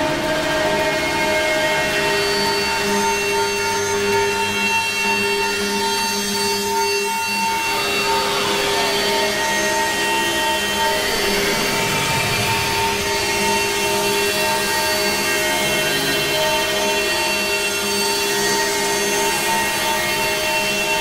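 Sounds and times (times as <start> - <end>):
eerie sustained tone clusters: 0.0 - 21.0.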